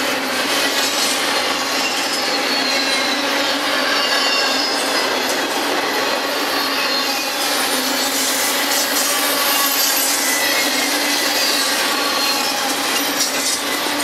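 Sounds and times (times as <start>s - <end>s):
high wheel squealing: 0.0s - 14.0s
steel wheels rushing on rail: 0.0s - 14.0s.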